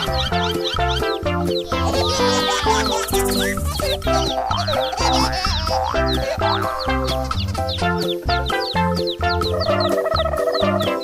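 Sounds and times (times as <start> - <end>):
upbeat bouncy background music: 0.0 - 11.0.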